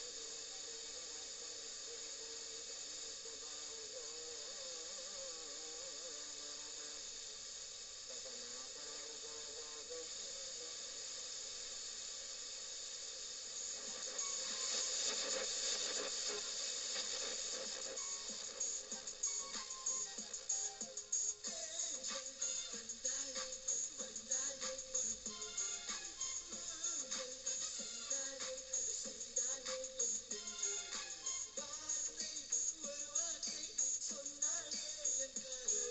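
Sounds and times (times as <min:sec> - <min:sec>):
faint song on radio: 0:00.0 - 0:35.9
radio static hiss: 0:00.0 - 0:35.9.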